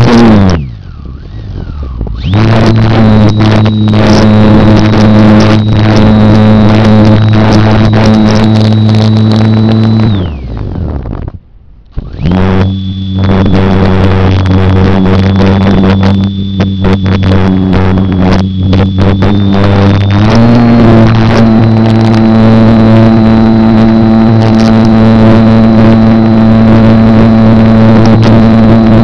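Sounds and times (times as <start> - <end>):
model plane motor and propeller: 0.0 - 11.3, 11.9 - 29.0.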